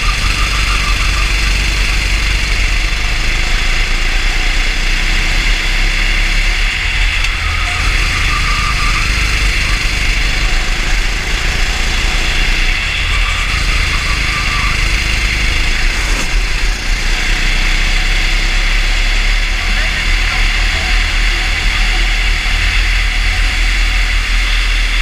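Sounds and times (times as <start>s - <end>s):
kart engine at speed: 0.0s - 25.0s.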